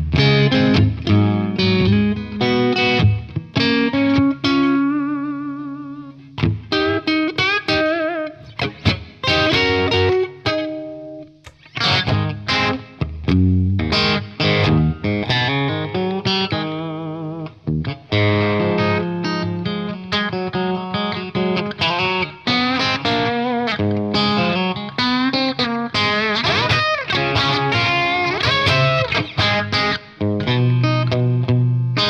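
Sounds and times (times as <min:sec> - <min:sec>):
overdriven electric guitar: 0:00.0 - 0:32.0.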